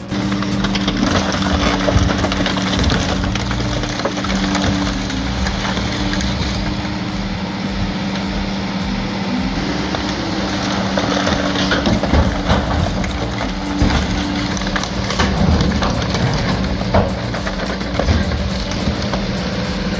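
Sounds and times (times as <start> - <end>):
crushing machine engine drone: 0.0 - 19.9.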